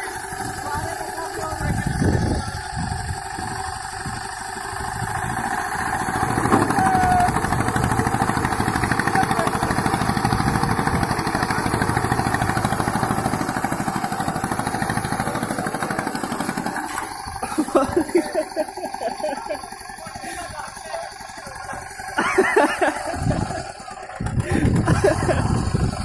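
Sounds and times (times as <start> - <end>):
single-cylinder engine chugging: 0.0 - 26.0.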